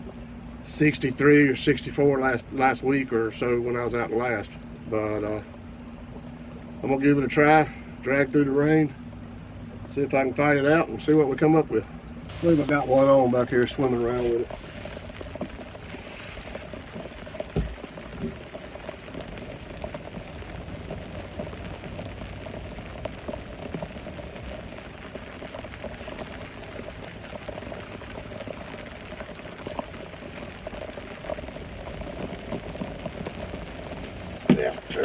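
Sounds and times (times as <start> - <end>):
rain falling on boat and water: 0.0 - 35.0.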